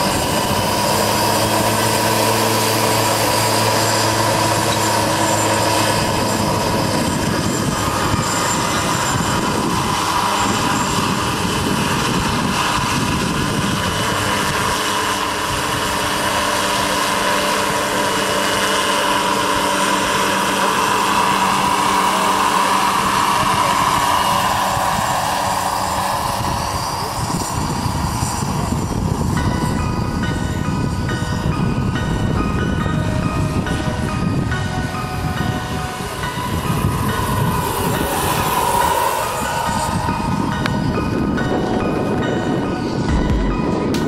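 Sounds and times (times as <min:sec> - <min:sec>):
model helicopter high-pitched tone: 0:00.0 - 0:44.0
rotor blades rushing: 0:00.0 - 0:44.0.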